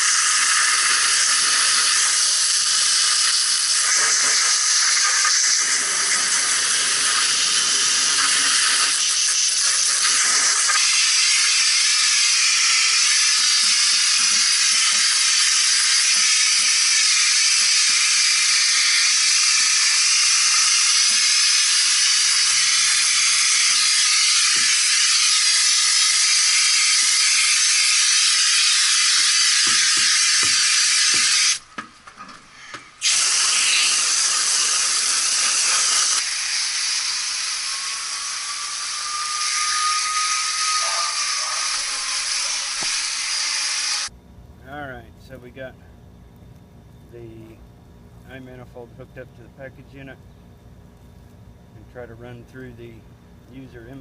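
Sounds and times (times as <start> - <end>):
garden hose spraying water: 0.0 - 31.7, 32.9 - 50.2.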